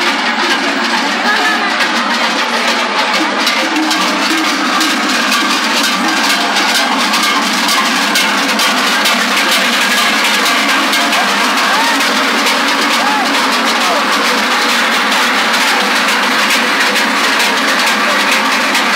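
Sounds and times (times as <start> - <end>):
large cowbells clanging: 0.0 - 18.9.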